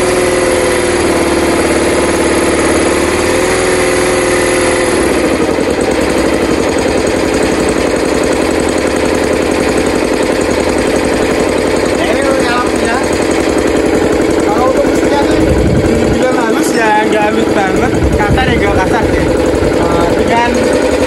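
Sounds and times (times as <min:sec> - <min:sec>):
petrol engine running: 0:00.0 - 0:21.0.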